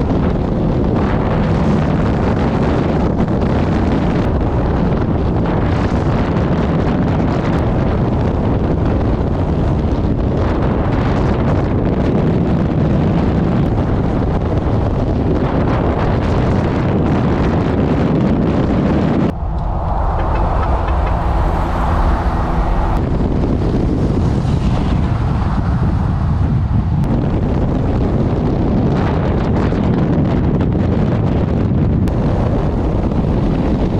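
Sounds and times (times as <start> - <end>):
car driving: 0.0 - 29.6
wind buffeting microphone: 0.0 - 33.9.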